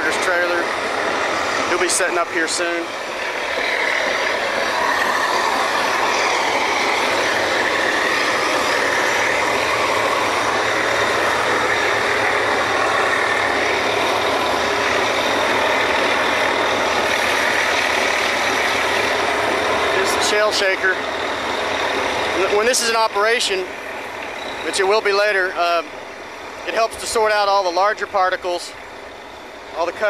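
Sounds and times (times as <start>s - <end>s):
drilling rig engine drone: 0.0s - 30.0s.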